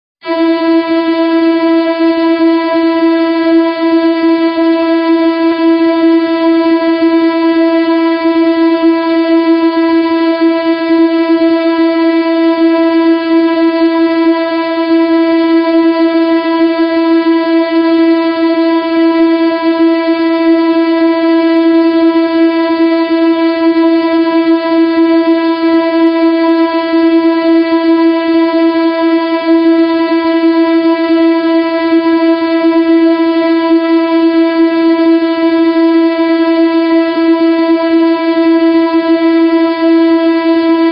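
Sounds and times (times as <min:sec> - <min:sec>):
buzzy horn tone: 0:00.2 - 0:40.9.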